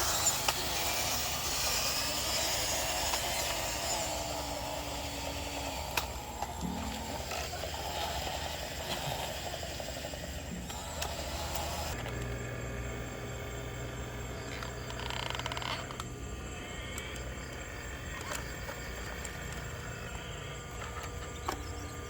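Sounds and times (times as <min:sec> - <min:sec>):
short buzzing whir: 0:00.0 - 0:22.0
small electric motors whirring: 0:00.0 - 0:22.0
steady low hum: 0:00.0 - 0:22.0.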